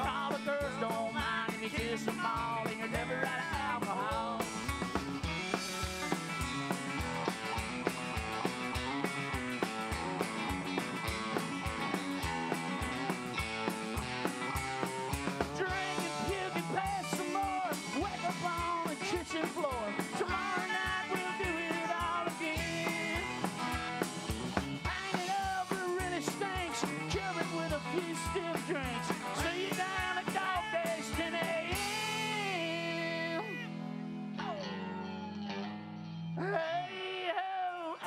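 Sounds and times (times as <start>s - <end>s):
drums: 0.0s - 35.8s, 36.4s - 38.0s
sliding guitar notes: 0.0s - 36.4s
upright bass: 0.0s - 36.7s
electric guitars: 0.0s - 38.0s.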